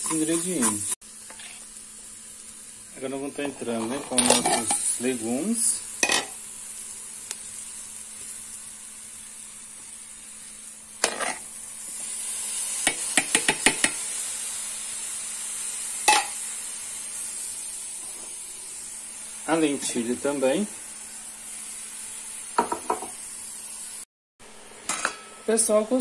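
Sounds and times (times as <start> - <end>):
meat sizzling in a pot: 0.0 - 26.0.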